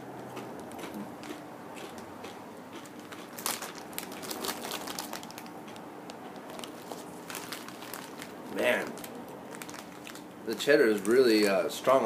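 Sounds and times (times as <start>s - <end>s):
potato chips crunching: 0.6s - 11.6s.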